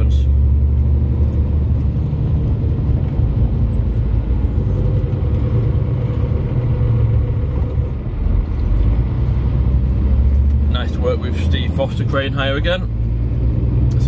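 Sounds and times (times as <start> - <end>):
lorry diesel engine drone: 0.0 - 14.0
road rumble: 0.0 - 14.0.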